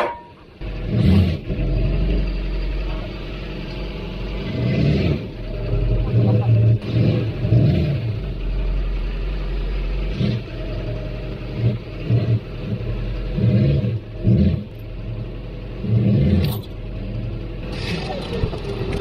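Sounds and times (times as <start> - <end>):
vehicle engine revving: 0.4 - 19.0.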